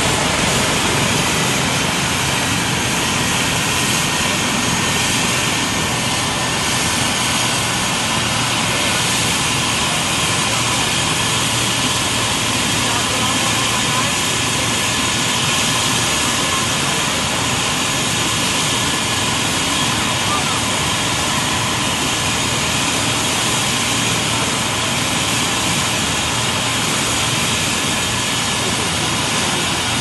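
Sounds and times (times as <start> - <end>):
helicopter turbines idling: 0.0 - 30.0.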